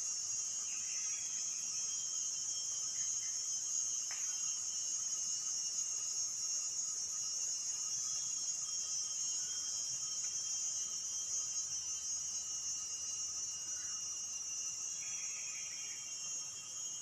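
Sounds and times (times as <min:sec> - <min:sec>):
high-pitched insect chorus: 0:00.0 - 0:17.0
lower insect trills: 0:00.1 - 0:17.0.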